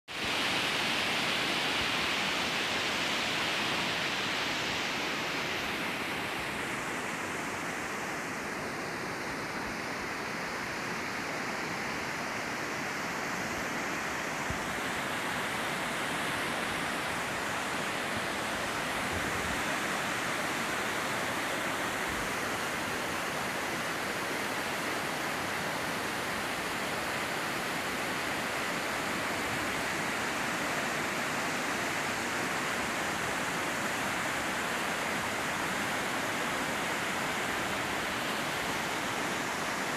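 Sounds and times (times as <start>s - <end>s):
river rushing: 0.1s - 39.9s.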